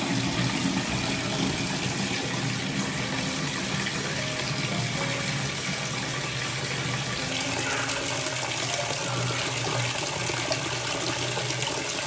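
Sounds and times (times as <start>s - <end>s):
water pouring into plastic basin: 0.0s - 12.0s.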